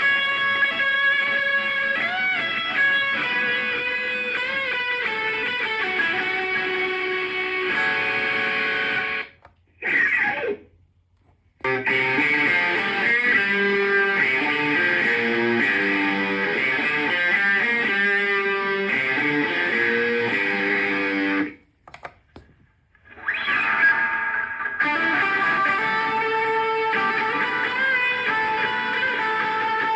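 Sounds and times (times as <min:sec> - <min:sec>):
electric guitar lead notes: 0:00.0 - 0:09.3, 0:11.6 - 0:21.6, 0:24.8 - 0:29.9.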